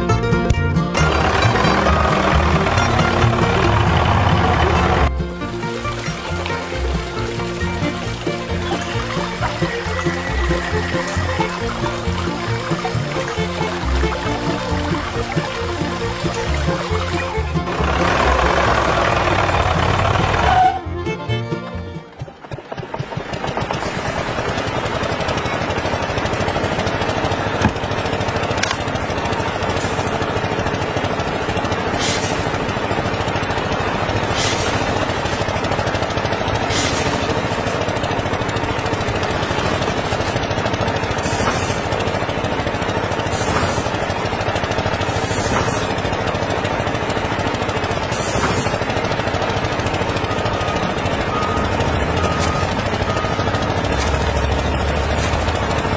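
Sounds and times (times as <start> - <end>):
small diesel engine running: 0.0 - 55.9.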